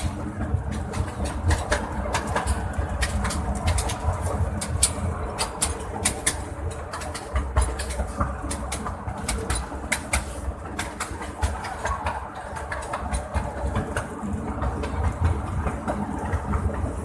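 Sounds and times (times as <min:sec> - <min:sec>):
rattling clicks of wheels: 0:00.0 - 0:17.0
small train rumbling on track: 0:00.0 - 0:17.0.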